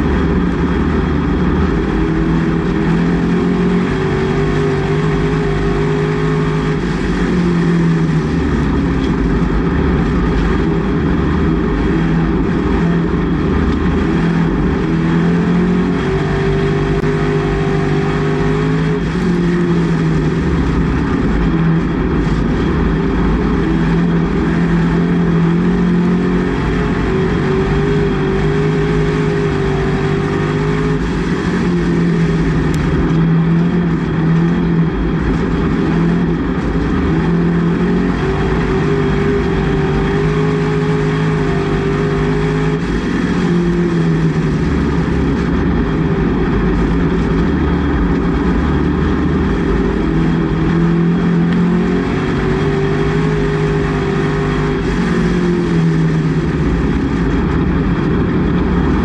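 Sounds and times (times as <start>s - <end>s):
race car engine under load: 0.0s - 59.0s.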